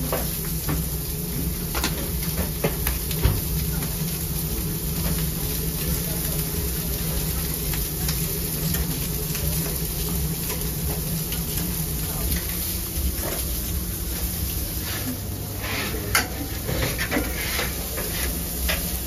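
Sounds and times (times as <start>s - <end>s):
background chatter: 2.4s - 19.0s.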